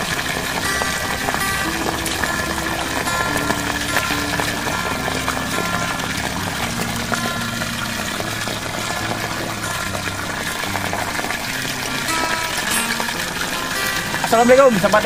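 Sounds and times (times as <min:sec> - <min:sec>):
background music: 0:00.0 - 0:15.0
water pouring into muddy pool: 0:00.0 - 0:15.0.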